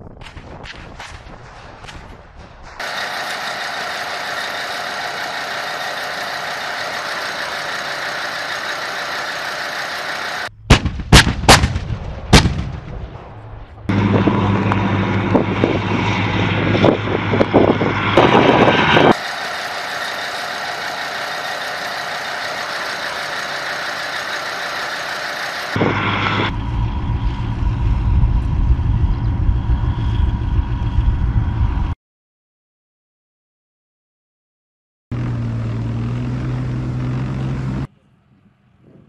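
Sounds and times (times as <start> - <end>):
vehicle engine rumbling: 0.9 - 32.0, 35.1 - 39.0.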